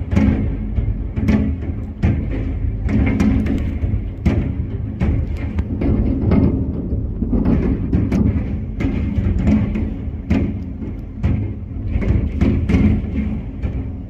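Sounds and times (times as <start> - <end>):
continuous low rumble: 0.0 - 14.0.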